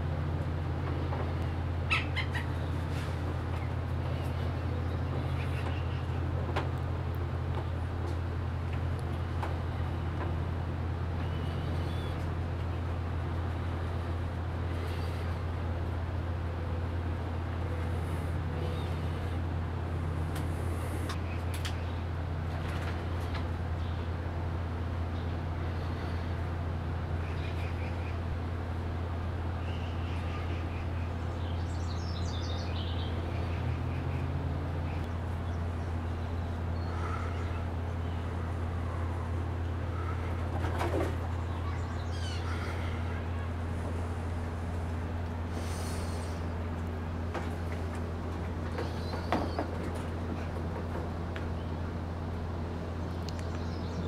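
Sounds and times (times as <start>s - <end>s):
low rumbling hum: 0.0s - 54.0s
birds chirping: 0.8s - 54.0s.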